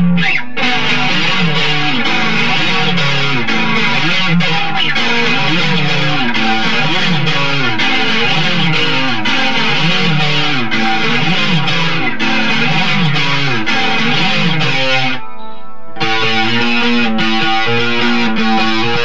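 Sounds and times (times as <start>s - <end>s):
electric guitar lead line: 0.0s - 19.0s.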